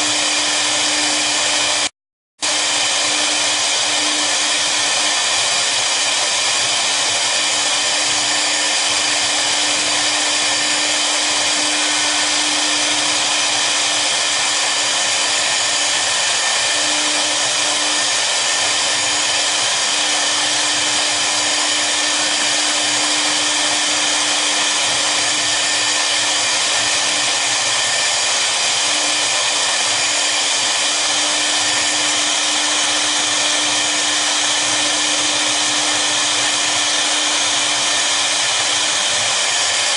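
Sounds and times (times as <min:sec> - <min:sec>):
cnc router spindles running: 0:00.0 - 0:39.9.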